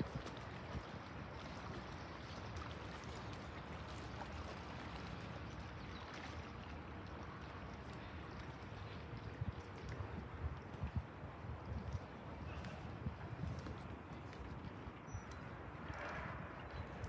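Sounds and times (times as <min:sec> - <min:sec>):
low wind: 0:00.0 - 0:17.0
small waves lapping: 0:00.0 - 0:17.0.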